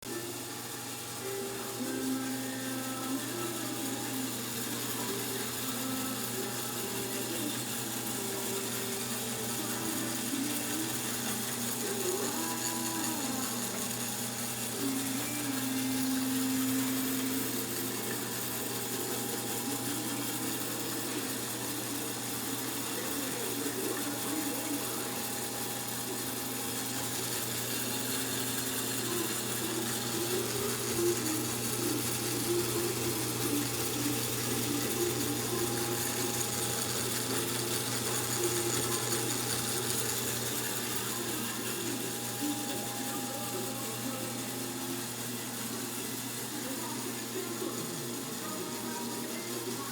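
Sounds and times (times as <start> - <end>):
motor hum and whine: 0.0 - 49.9.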